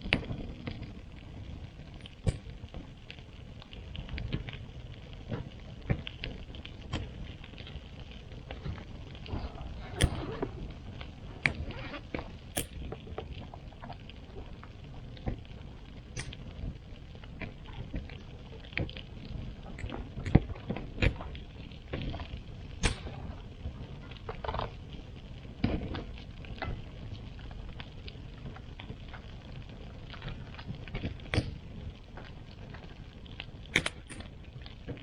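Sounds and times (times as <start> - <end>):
campfire popping: 0.0 - 35.0.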